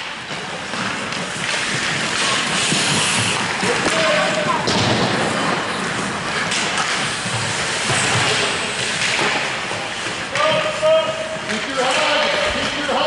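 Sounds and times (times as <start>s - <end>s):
skates scraping on ice: 0.0s - 13.0s.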